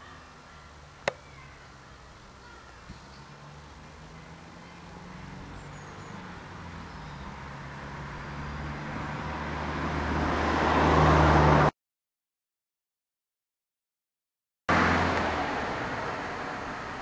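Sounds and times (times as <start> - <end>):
road noise: 0.0 - 11.7, 14.7 - 17.0
vehicle engine hum: 0.0 - 11.7, 14.7 - 17.0.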